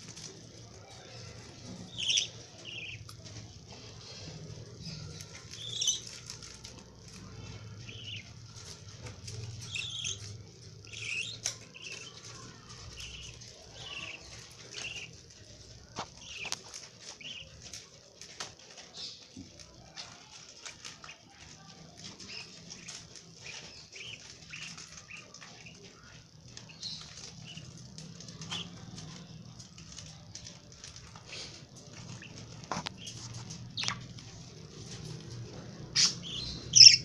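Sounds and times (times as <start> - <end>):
lovebirds chirping: 0.0 - 18.2, 20.8 - 37.0
wings fluttering: 0.0 - 37.0.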